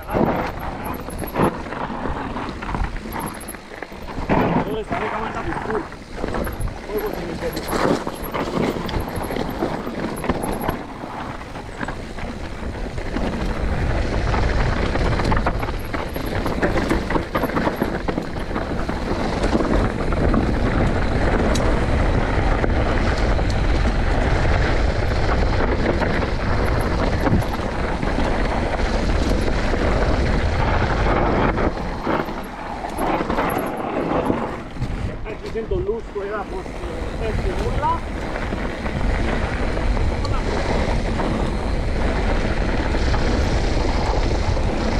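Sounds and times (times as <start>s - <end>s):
bike tyres rattling on rough trail: 0.0s - 44.9s
wind buffeting microphone: 0.0s - 44.9s.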